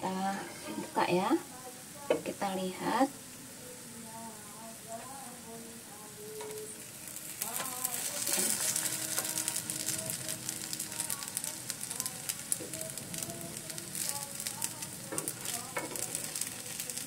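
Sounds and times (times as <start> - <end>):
cakes sizzling on grill pan: 0.1 - 17.0.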